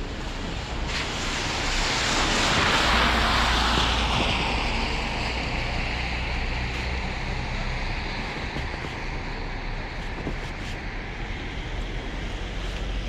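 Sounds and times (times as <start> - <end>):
tyre hiss on wet street: 0.0 - 13.0.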